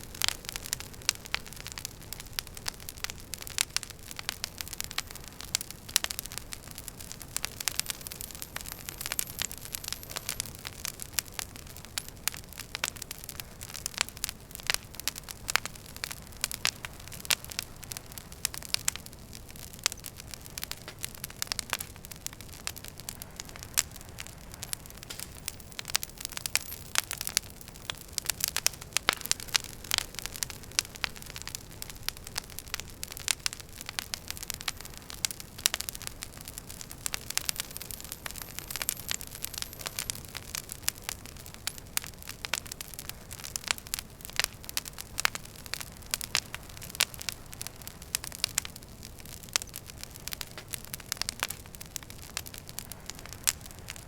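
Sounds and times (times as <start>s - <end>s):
fire low hiss: 0.0s - 54.0s
wood fire crackling and popping: 0.0s - 54.0s.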